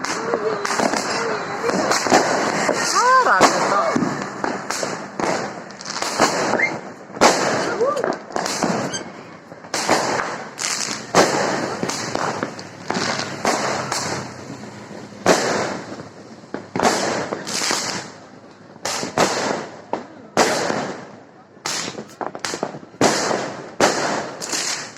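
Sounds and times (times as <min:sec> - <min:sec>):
fireworks bursting with crackle: 0:00.0 - 0:24.9.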